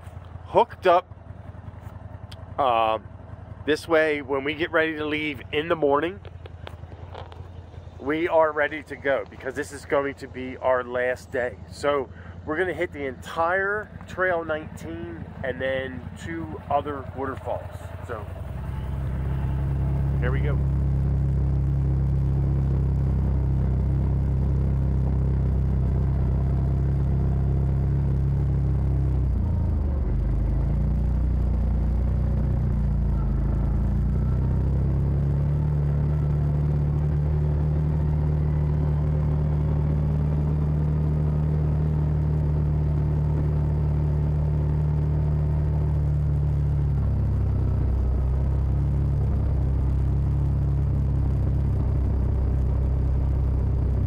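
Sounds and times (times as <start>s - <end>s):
utility vehicle engine droning: 0.0s - 54.0s.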